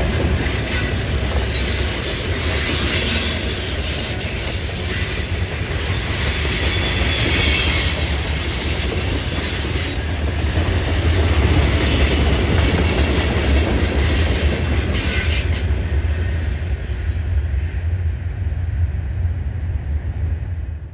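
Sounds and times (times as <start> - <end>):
train wheel squeal: 0.0 - 10.4, 11.0 - 17.9
freight train rumbling past: 0.0 - 20.9.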